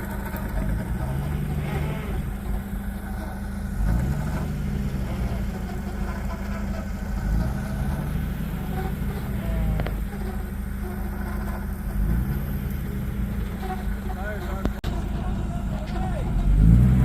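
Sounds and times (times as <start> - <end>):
vehicle engine running at low revs: 0.0 - 17.0.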